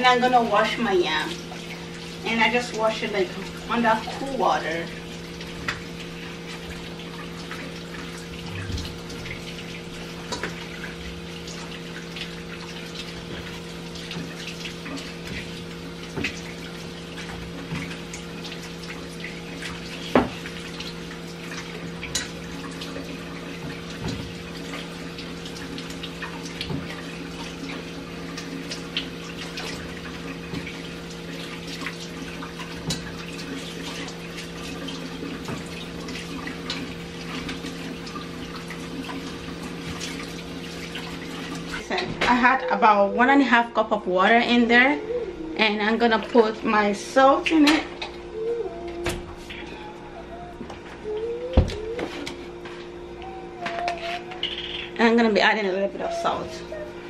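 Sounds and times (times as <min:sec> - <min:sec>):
kitchen tap running: 0:00.0 - 0:52.4, 0:53.2 - 0:57.0.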